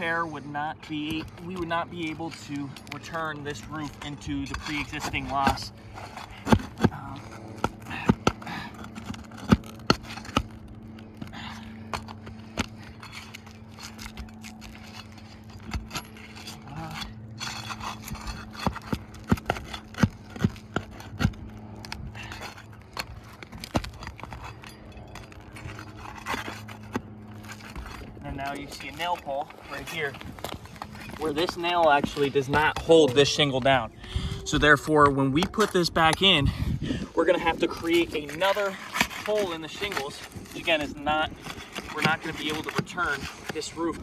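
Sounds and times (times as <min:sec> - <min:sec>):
metal tool scraping shingles: 0:00.0 - 0:44.0.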